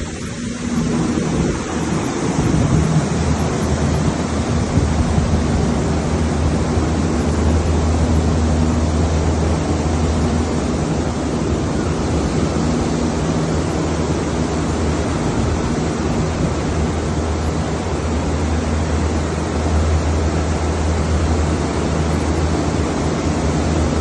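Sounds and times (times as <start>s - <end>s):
cooling tower water rushing: 0.0s - 24.0s
low steady hum: 0.0s - 24.0s.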